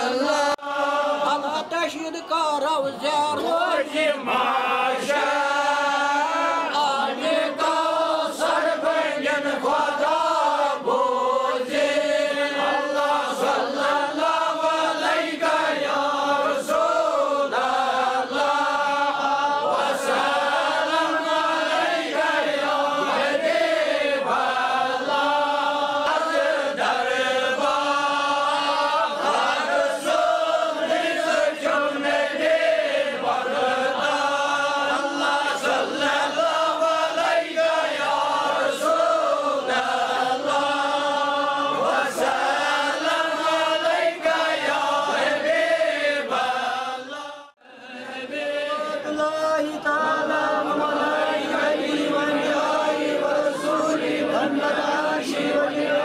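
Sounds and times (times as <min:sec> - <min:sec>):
men chanting a prayer: 0:00.0 - 0:56.0.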